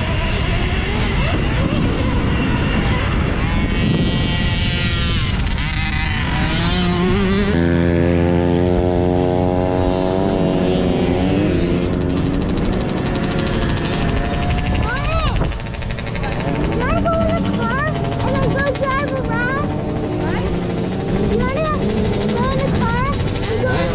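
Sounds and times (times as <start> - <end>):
electric motor whining: 0.0 - 23.9
wind on microphone: 0.0 - 23.9.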